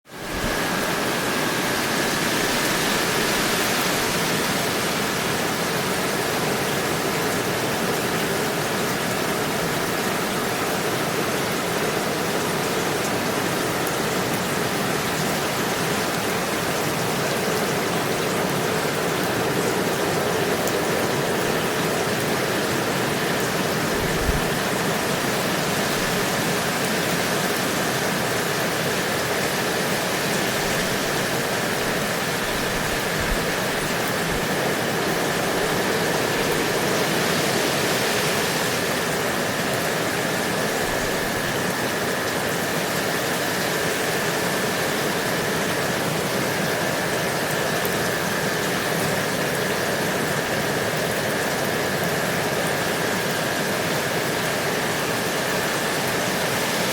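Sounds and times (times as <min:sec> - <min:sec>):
steady rain hiss: 0:00.1 - 0:56.9.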